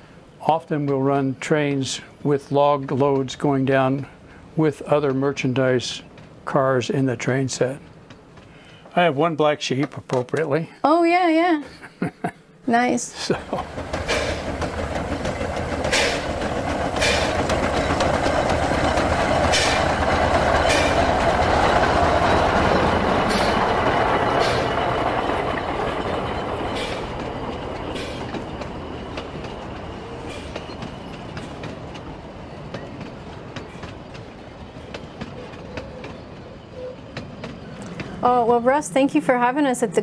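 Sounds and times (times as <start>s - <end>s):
model train rolling: 0.0s - 10.6s, 13.1s - 40.0s.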